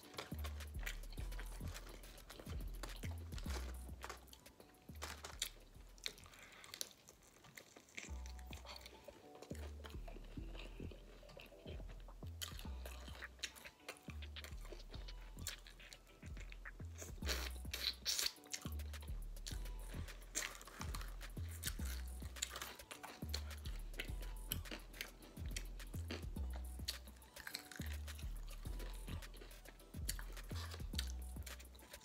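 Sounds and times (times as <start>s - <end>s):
background music with bass: 0.0s - 6.4s, 8.1s - 32.0s
chewing and crunching: 0.0s - 32.0s
wet mouth sounds: 0.0s - 32.0s.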